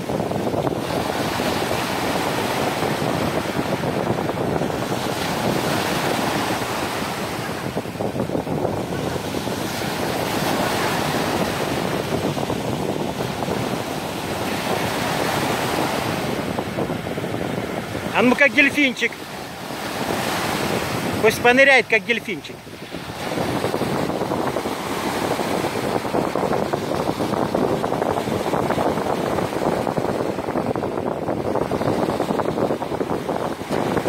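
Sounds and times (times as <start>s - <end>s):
surf breaking on sandy shore: 0.0s - 34.0s.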